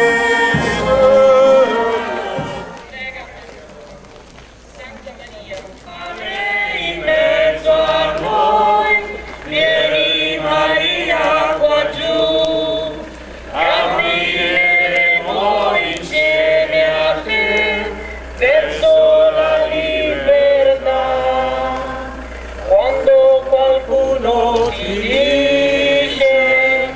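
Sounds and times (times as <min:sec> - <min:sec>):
group singing a hymn: 0:00.0 - 0:03.1, 0:05.9 - 0:26.9.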